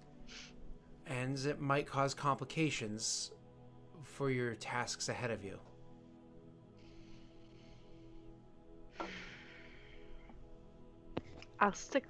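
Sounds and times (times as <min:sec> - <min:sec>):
ambient background music: 0:00.0 - 0:12.0.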